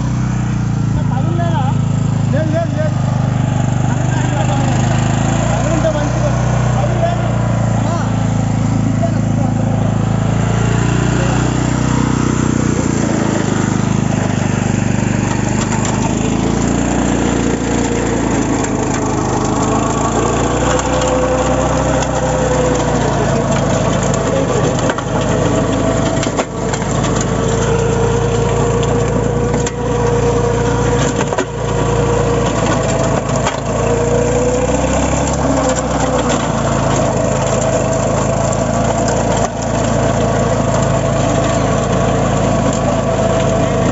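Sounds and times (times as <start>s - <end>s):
small tractor engine running: 0.0s - 43.9s.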